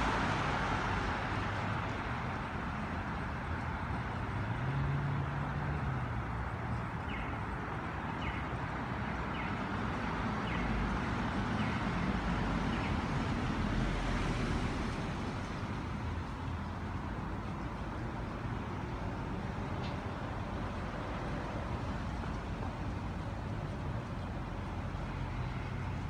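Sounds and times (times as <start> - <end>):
engine hum: 0.0 - 26.0
rumble of passing vehicles: 0.0 - 26.0.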